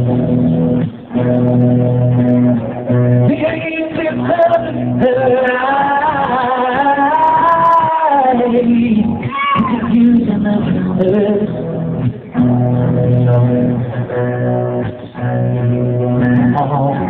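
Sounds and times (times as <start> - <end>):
live rock band playing: 0.0 - 17.0
man singing: 2.9 - 17.0.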